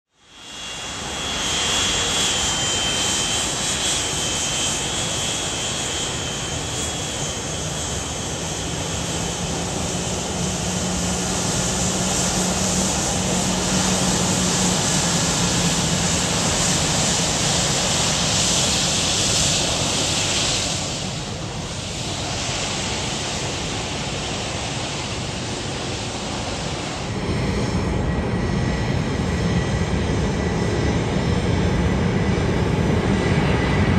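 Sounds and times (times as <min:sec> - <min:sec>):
jet engines whining at taxi: 0:00.1 - 0:33.9.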